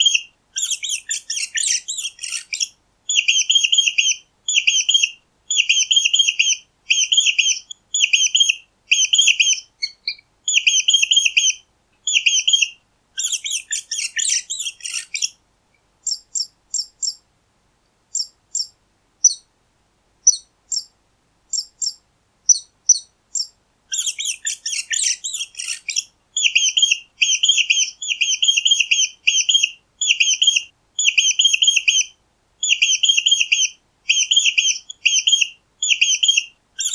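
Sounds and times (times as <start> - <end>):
mice squeaking: 0.6 - 15.3, 20.3 - 20.9, 21.5 - 36.9.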